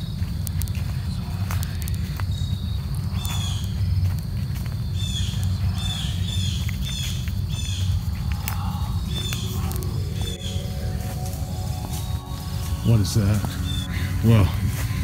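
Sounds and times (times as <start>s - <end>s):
bird calling: 0.0s - 15.0s
footsteps crunching on trail: 0.0s - 15.0s
low rumble: 0.0s - 15.0s.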